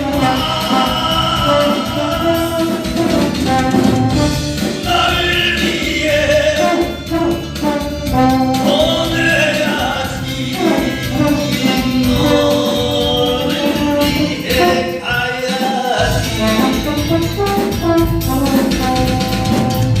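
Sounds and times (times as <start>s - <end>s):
person singing: 0.0s - 3.6s, 4.7s - 17.8s
deep bass line: 0.0s - 15.2s, 16.0s - 20.0s
band backing: 0.0s - 20.0s
brass instruments: 0.0s - 20.0s.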